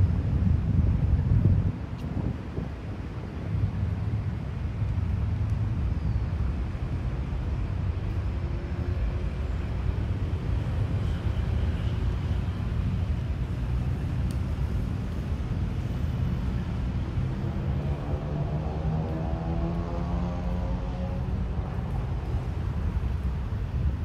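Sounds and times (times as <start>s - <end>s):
city street traffic rumble: 0.0s - 24.0s.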